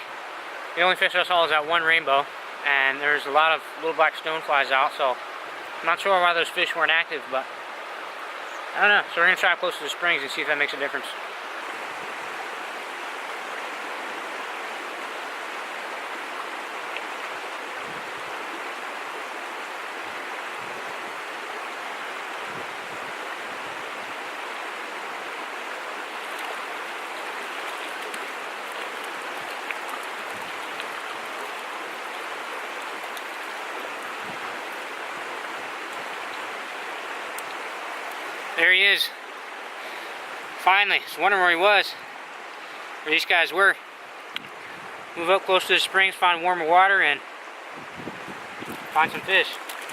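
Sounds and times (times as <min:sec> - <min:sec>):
water rushing over rocks: 0:00.0 - 0:49.9.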